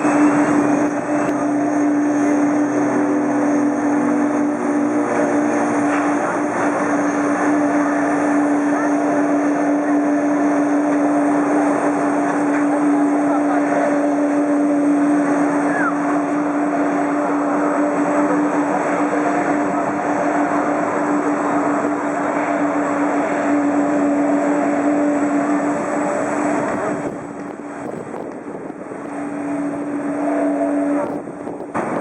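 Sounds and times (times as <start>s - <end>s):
aircraft engines humming: 0.0s - 32.0s.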